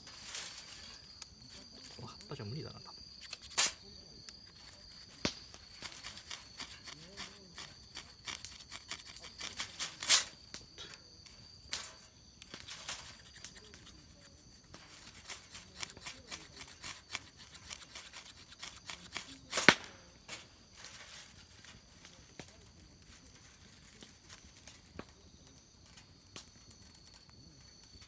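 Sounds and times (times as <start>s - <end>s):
fire crackling and popping: 0.0s - 28.0s.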